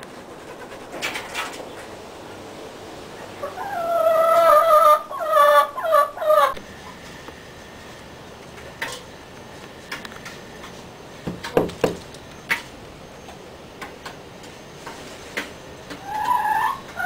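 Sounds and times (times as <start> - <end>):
steady low hiss: 0.0 - 16.1.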